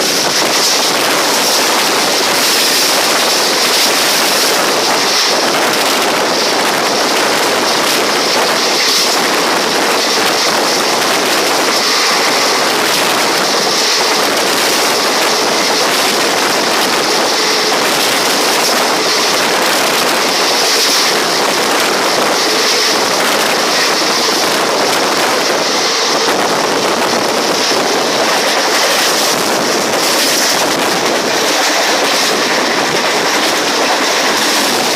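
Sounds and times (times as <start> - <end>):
light clicking of train wheels: 0.0 - 34.9
train wheel and wind noise: 0.0 - 34.9.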